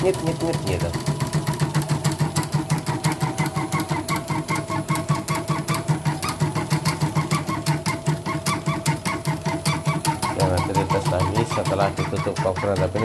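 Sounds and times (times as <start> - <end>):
embroidery machine clattering: 0.0 - 13.0.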